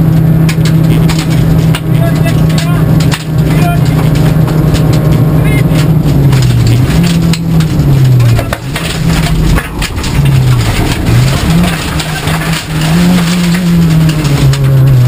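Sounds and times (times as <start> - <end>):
gravel rattling under car: 0.0 - 15.0
rally car engine: 0.0 - 15.0.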